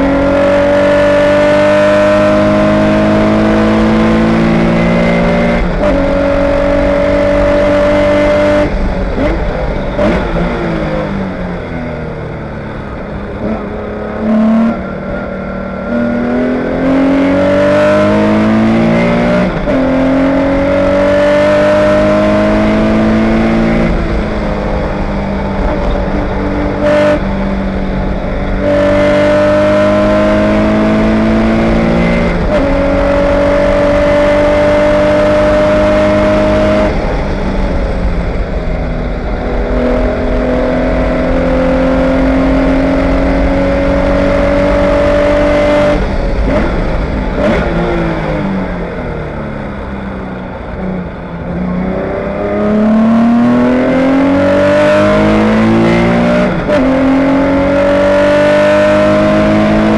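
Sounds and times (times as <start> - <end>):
race car engine accelerating: 0.0 - 11.9, 12.5 - 59.9.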